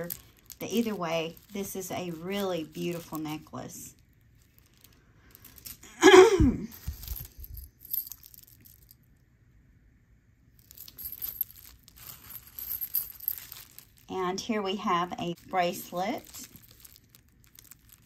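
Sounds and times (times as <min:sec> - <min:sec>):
bubble wrap crinkling: 0:00.0 - 0:05.9, 0:06.7 - 0:08.9, 0:10.6 - 0:14.3, 0:15.3 - 0:18.0
beads and chain clinking: 0:00.0 - 0:06.0, 0:06.7 - 0:09.2, 0:10.5 - 0:18.0.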